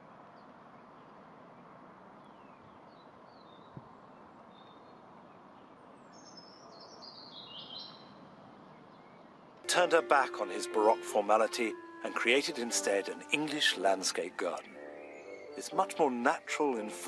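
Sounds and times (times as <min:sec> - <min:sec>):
small songbirds chirping: 0:00.2 - 0:17.0.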